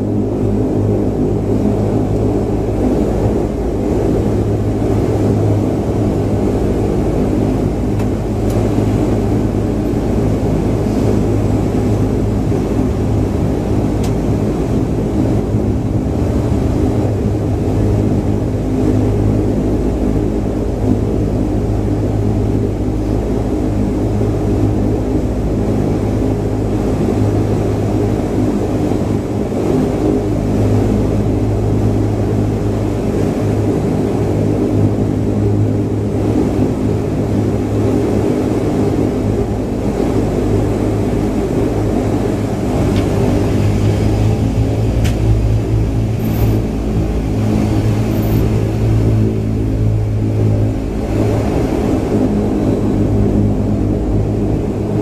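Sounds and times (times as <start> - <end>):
propeller drone in cabin: 0.0 - 55.0.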